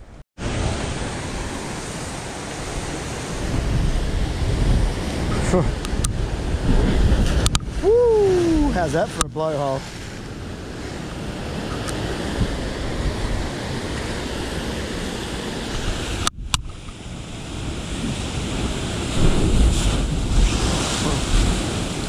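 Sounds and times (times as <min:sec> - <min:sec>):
water surging through sea cave: 0:00.4 - 0:22.0
wind buffeting microphone: 0:00.4 - 0:22.0.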